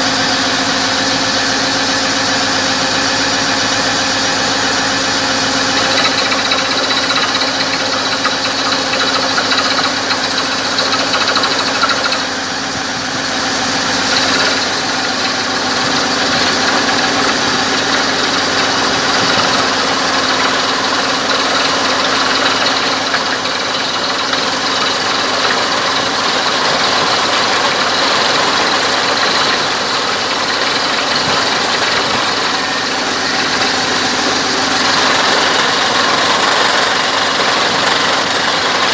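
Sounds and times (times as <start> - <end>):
drilling rig engine running: 0.0 - 38.9.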